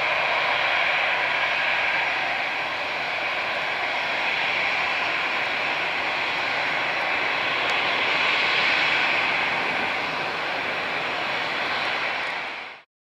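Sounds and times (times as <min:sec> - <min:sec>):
jet engine rushing noise: 0:00.0 - 0:12.9.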